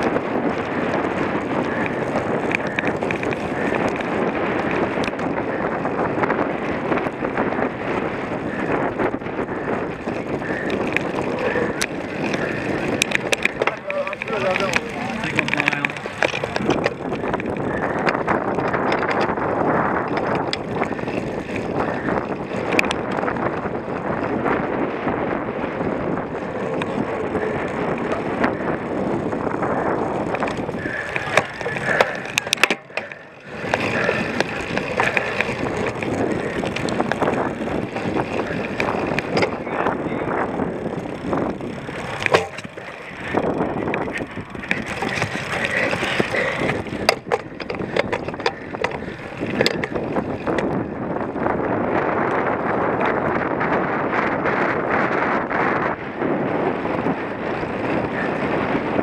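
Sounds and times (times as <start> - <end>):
bike frame rattling and knocking: 0.0 - 53.4
bicycle tyre noise on rough ground: 0.0 - 59.0.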